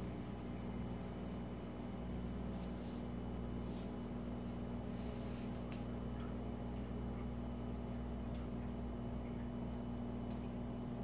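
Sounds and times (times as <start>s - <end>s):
dishwasher motor and pump hum: 0.0s - 11.0s.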